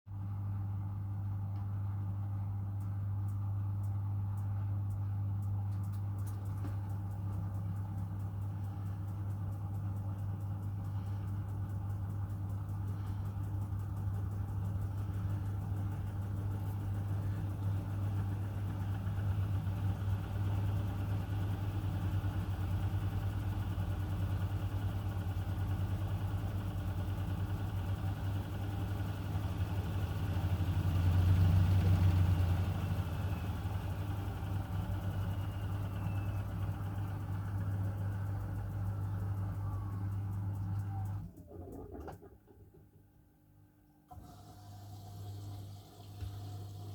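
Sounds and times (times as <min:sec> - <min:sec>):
washing machine humming: 0:00.1 - 0:46.9.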